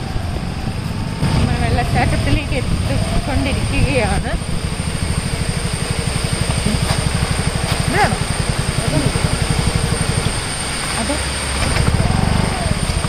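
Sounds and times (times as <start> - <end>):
motor scooter engine running: 0.0 - 13.0.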